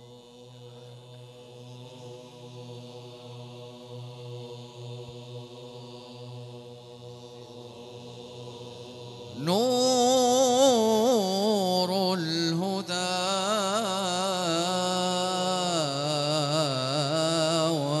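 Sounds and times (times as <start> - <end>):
voices humming a drone: 0.0 - 18.0.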